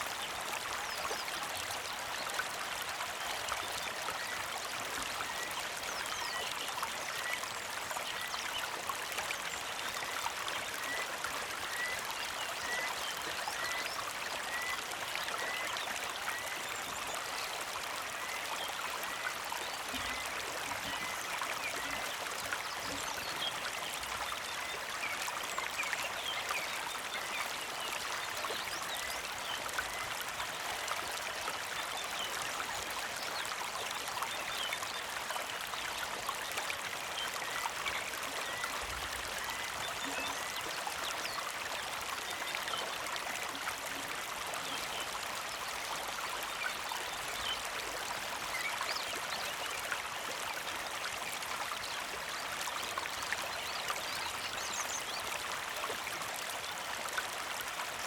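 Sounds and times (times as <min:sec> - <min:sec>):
creek flowing: 0:00.0 - 0:58.0.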